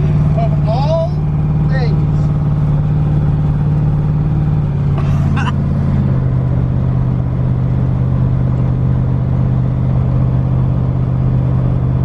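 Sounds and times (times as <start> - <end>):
low car exhaust drone: 0.0 - 12.0.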